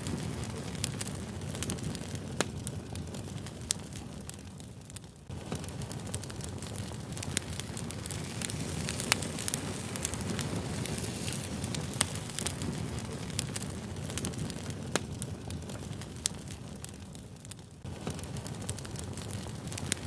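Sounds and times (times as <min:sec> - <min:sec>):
fire crackling: 0:00.0 - 0:20.0
fire popping and snapping: 0:00.0 - 0:20.0.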